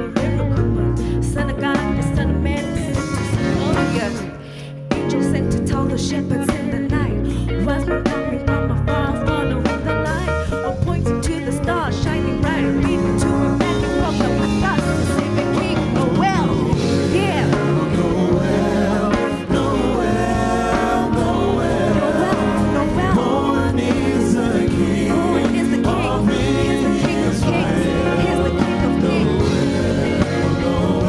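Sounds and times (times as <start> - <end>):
gospel singing with guitar and bass: 0.0 - 31.0.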